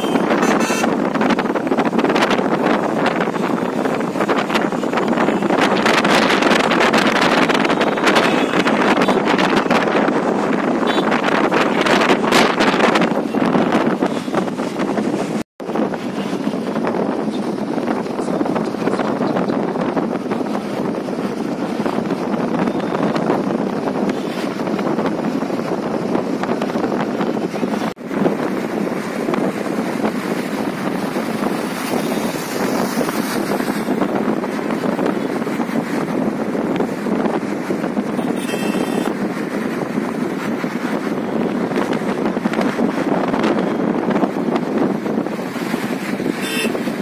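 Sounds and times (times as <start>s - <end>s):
vehicle road noise: 0.0s - 47.0s
wind rushing over microphone: 0.0s - 47.0s.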